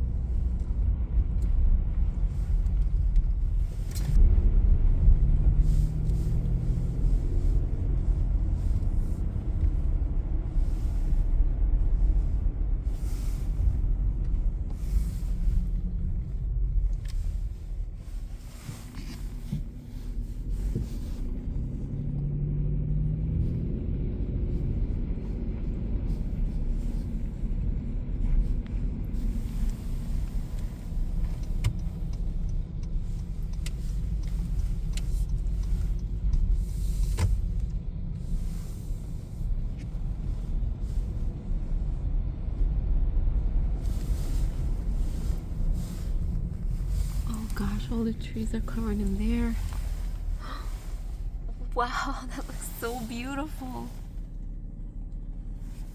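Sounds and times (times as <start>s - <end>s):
car engine rumble: 0.0s - 55.9s
road noise: 0.0s - 55.9s.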